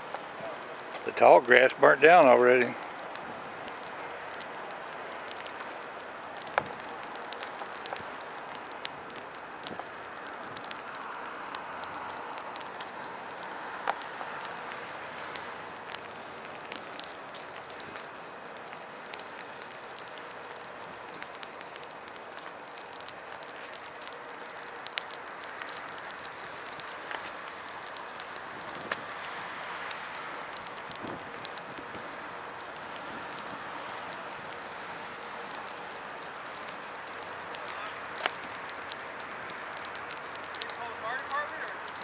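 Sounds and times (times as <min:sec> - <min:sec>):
dry grass burning: 0:00.0 - 0:42.0
fire crackles and pops: 0:00.0 - 0:42.0.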